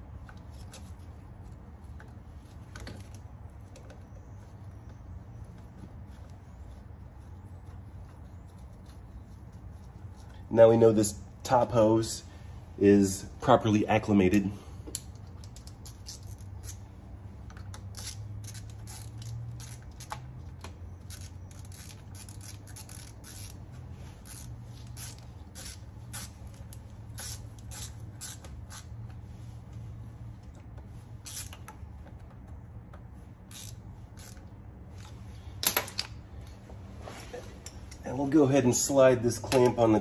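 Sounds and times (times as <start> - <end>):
clicks and scrapes of hoses: 0.0 - 12.2, 13.1 - 40.0
steady low hum: 0.0 - 40.0.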